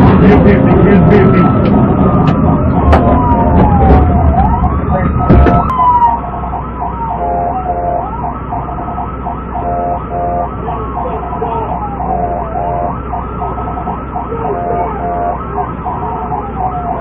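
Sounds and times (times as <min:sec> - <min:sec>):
car engine rumble and road noise: 0:00.0 - 0:17.0
police siren wailing and yelping: 0:00.1 - 0:17.0.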